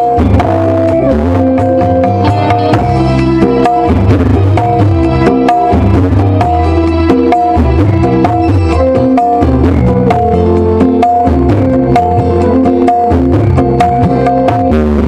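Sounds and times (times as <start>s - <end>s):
guitar: 0.0s - 15.0s
hand drums: 0.0s - 15.0s
keyboard melody: 0.0s - 15.0s.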